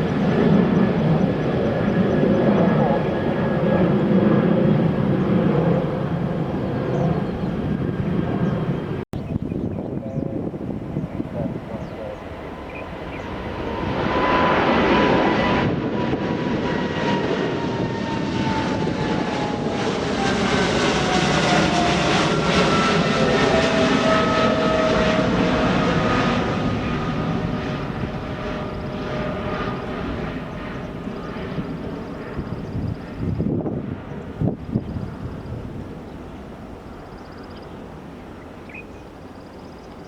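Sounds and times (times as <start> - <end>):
jet engine whine falling in pitch: 0.0 - 40.0
jet engines rumbling: 0.0 - 40.0.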